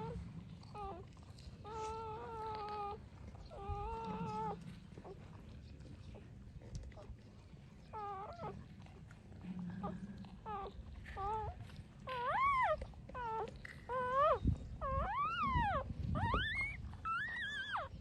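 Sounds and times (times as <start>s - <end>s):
puppies whining: 0.0s - 5.3s, 7.9s - 8.9s, 9.7s - 18.0s.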